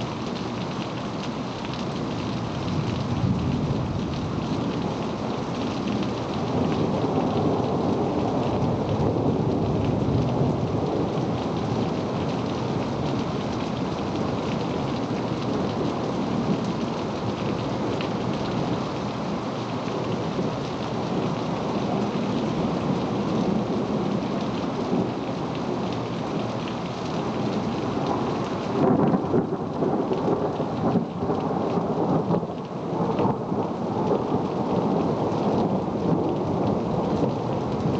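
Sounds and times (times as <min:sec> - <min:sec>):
heavy rain: 0:00.0 - 0:37.9.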